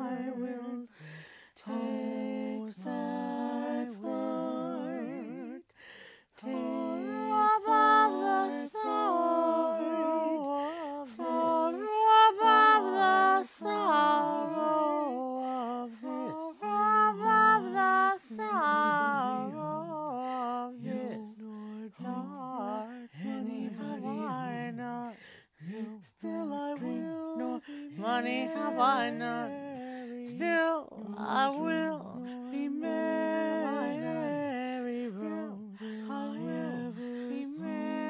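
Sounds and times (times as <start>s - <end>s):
woman singing in harmony a cappella: 0.0s - 38.0s.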